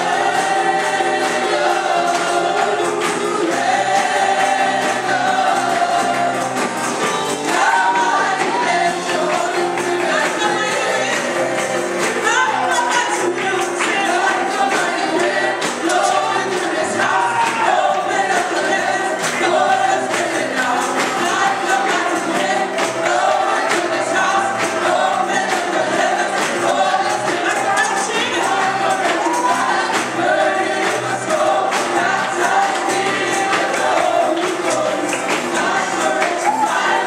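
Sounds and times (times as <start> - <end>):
group of voices singing: 0.0 - 37.0
instrumental accompaniment: 0.0 - 37.0.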